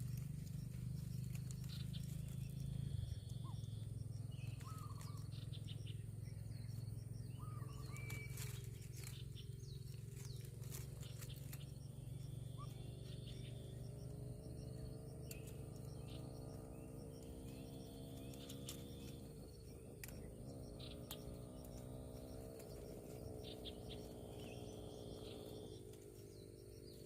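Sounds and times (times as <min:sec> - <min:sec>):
faint bird chirps: 0:00.0 - 0:27.0
steady low hum: 0:00.0 - 0:27.0.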